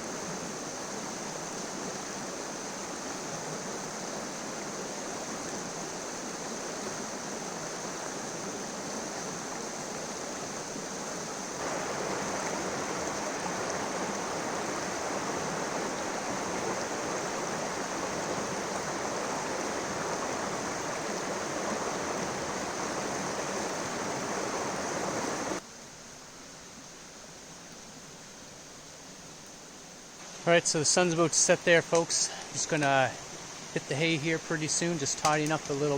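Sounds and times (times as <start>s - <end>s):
river water rushing: 0.0s - 25.7s, 26.8s - 35.9s.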